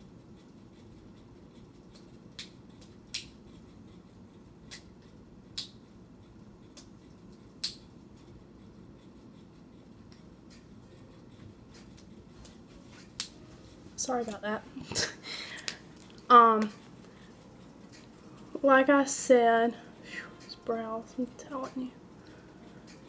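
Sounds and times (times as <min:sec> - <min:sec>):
ceiling fan humming: 0:00.0 - 0:23.0.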